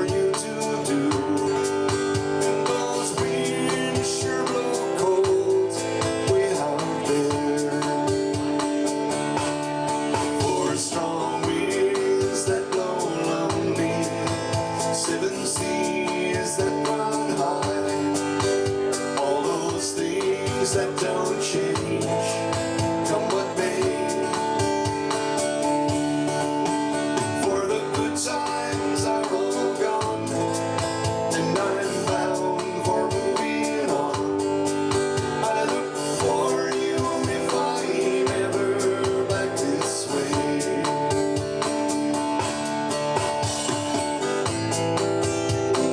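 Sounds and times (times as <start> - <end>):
man singing: 0.0 - 41.9, 45.4 - 45.9
acoustic guitar strumming: 0.0 - 45.9.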